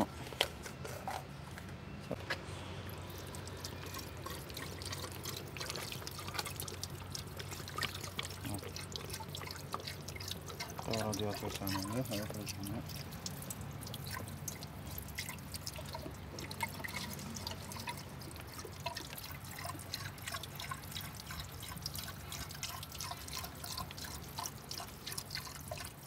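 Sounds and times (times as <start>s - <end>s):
water dripping and splashing: 2.8s - 26.0s.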